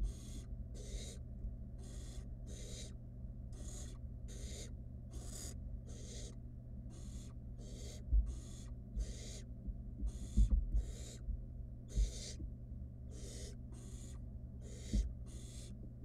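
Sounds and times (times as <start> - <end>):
owl chicks hissing calls: 0.0 - 1.2, 1.8 - 9.5, 10.1 - 11.2, 11.9 - 12.4, 13.1 - 15.8
steady low hum: 0.0 - 16.0.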